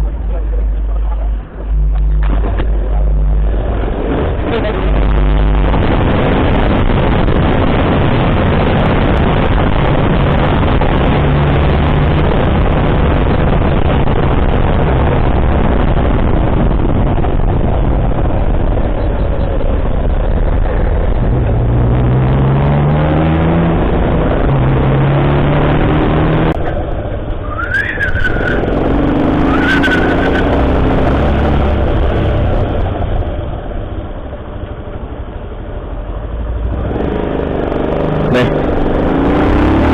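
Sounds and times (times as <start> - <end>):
vehicle engine accelerating: 0.0 - 39.9
wind noise over microphone: 1.4 - 34.4.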